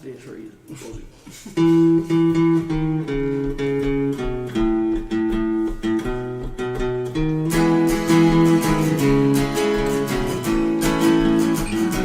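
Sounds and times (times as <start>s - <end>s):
acoustic guitar strumming chords: 1.6s - 12.0s.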